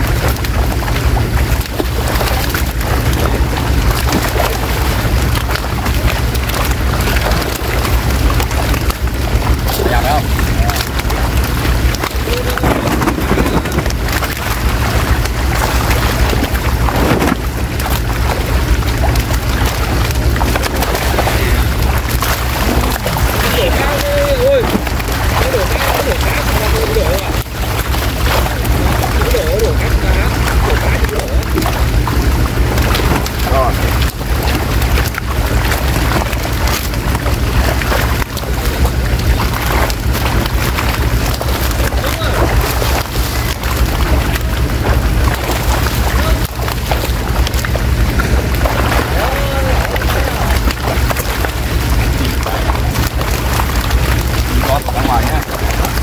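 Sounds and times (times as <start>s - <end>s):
fish splashing in shallow water: 0.0s - 56.0s
wind rumble on microphone: 0.0s - 56.0s.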